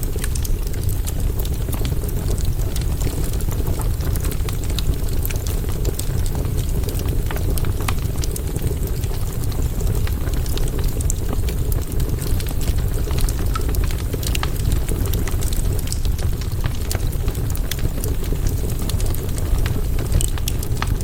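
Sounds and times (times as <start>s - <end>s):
campfire burning: 0.0s - 21.0s
wood crackling and popping: 0.0s - 21.0s.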